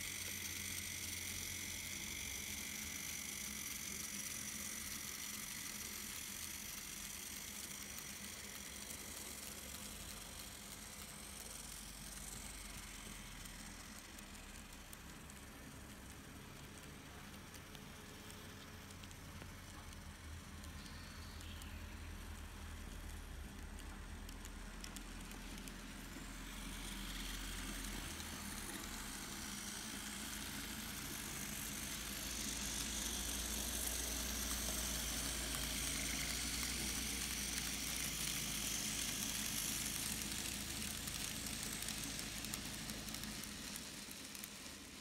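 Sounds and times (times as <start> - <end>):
model train motor whirring: 0.0 - 45.0.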